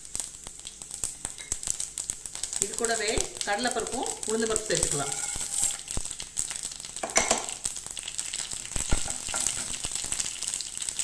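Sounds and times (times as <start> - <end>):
lentils sizzling in hot oil: 0.0 - 11.0.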